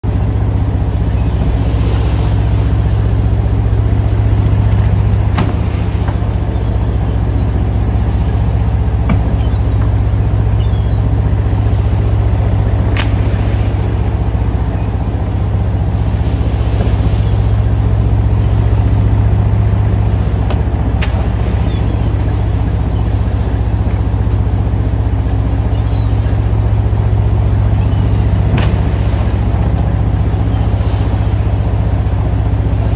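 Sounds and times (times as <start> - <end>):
boat engine droning: 0.0 - 32.9
water rushing along hull: 0.0 - 32.9.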